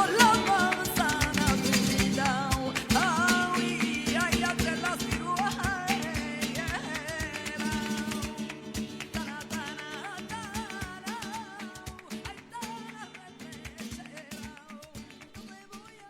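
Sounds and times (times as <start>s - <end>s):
flamenco guitar strumming: 0.0s - 16.0s
person singing flamenco: 0.0s - 16.0s.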